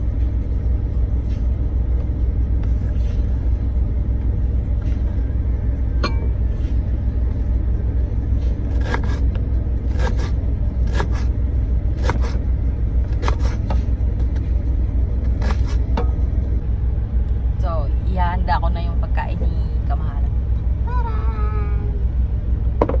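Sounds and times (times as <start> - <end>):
truck engine rumble: 0.0 - 23.0.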